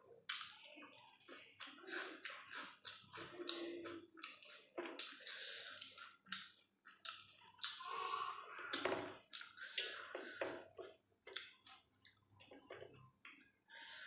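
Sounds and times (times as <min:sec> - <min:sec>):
chewing and mouth smacks: 0:00.3 - 0:08.0, 0:08.6 - 0:13.4.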